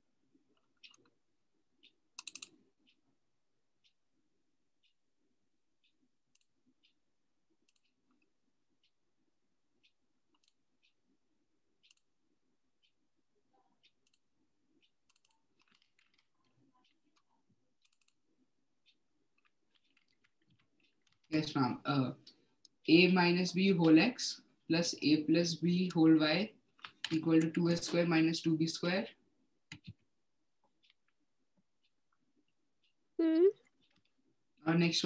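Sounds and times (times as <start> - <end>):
faint irregular clicks: 0.0 - 21.4, 22.2 - 23.0, 26.5 - 34.6.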